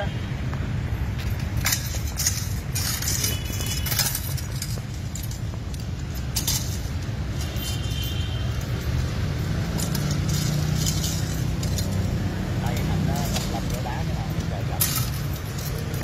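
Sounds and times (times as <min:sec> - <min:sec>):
metallic clinks and jingles: 0:01.2 - 0:16.0
short rings: 0:01.2 - 0:16.0.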